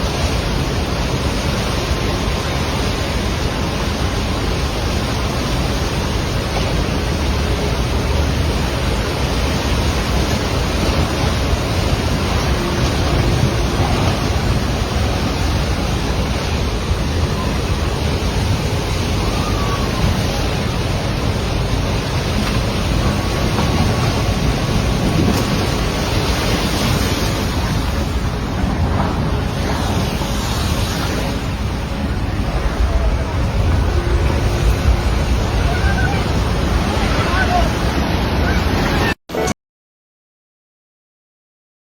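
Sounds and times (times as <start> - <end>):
floodwater rushing: 0.0 - 39.5.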